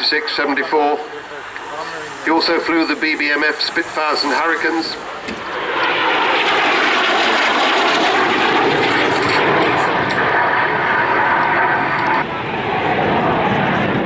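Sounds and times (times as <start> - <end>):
jet aircraft roar: 0.0 - 14.0.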